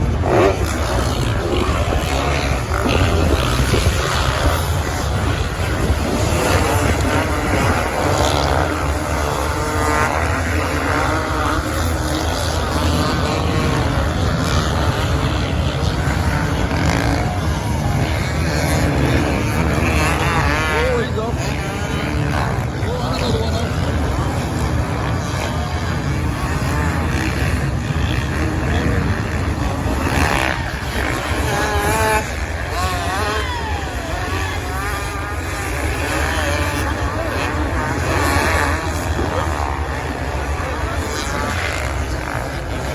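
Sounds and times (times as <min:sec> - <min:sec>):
heavy rumble: 0:00.0 - 0:42.9
motorbike and quad engines revving: 0:00.0 - 0:42.9.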